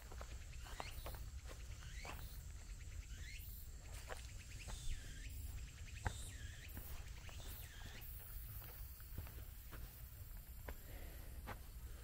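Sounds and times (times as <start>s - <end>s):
faint high insect drone: 0.0s - 12.0s
footsteps on forest trail: 0.0s - 12.0s.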